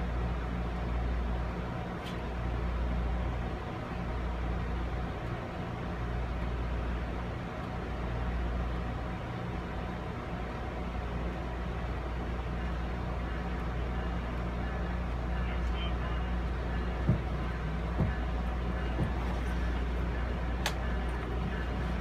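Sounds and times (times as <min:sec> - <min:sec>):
passenger train rumble and hum: 0:00.0 - 0:22.0.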